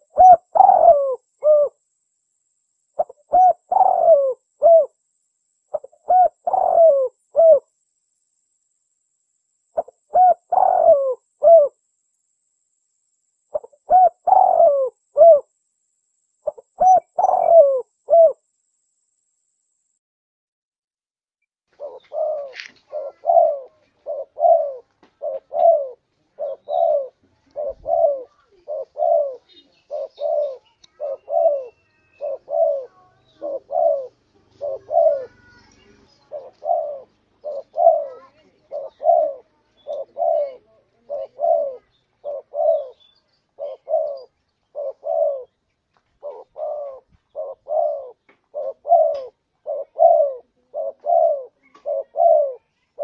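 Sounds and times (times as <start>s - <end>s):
dove cooing: 0.0s - 1.8s, 3.0s - 5.0s, 5.7s - 7.7s, 9.8s - 11.8s, 13.5s - 15.5s, 16.4s - 18.5s, 21.7s - 45.6s, 46.2s - 53.0s.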